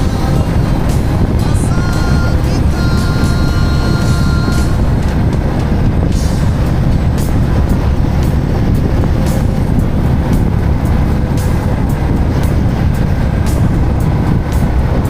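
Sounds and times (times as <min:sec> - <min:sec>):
motorcycle engine: 0:00.0 - 0:15.0
road noise: 0:00.0 - 0:15.0
wind rumble on microphone: 0:00.0 - 0:15.0.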